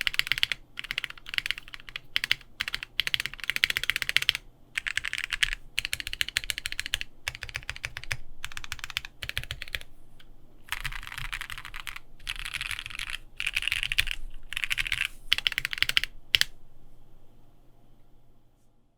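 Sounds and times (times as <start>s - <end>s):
mechanical keyboard typing: 0.0s - 9.9s, 10.7s - 16.5s.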